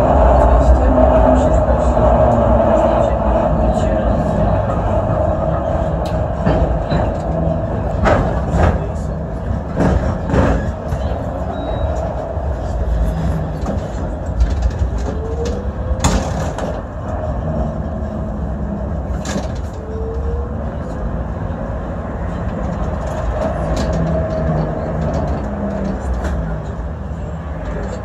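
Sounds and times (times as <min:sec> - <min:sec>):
tram wheels rumbling on rail: 0:00.0 - 0:28.0.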